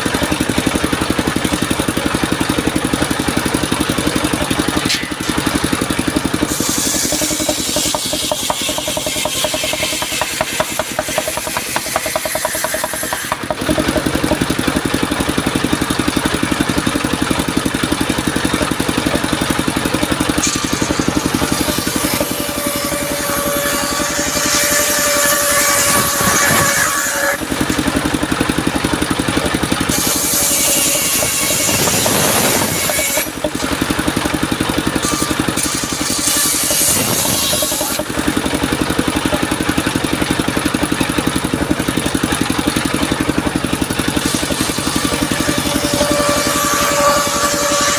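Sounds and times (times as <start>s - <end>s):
saw blade whining through wood: 0.0s - 47.9s
sawmill engine firing: 0.0s - 47.9s.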